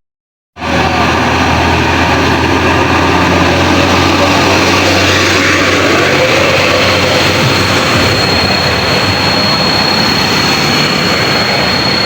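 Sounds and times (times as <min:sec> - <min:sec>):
high steady whine: 0:00.6 - 0:12.0
truck engine roaring: 0:00.6 - 0:12.0.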